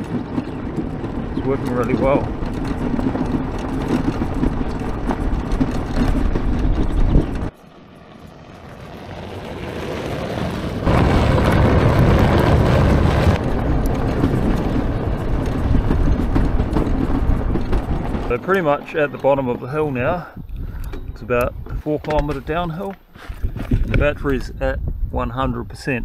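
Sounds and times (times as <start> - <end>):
tyres on gravel: 0.0 - 24.6
wind: 0.0 - 26.0.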